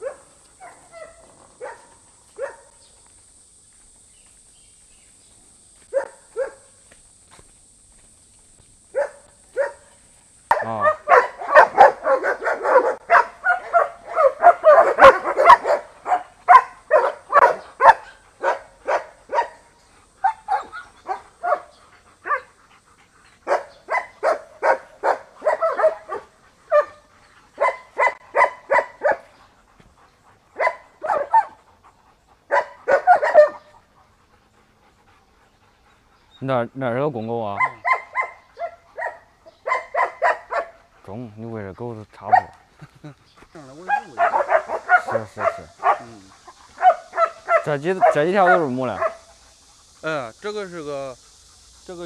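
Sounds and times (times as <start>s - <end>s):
dogs barking: 0.0s - 2.8s, 5.8s - 6.8s, 8.9s - 36.0s, 37.2s - 41.0s, 42.2s - 52.0s.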